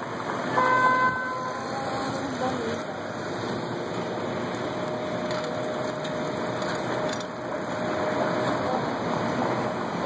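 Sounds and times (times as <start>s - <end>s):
passers-by on sidewalk: 0.0s - 10.0s
traffic: 0.0s - 10.0s.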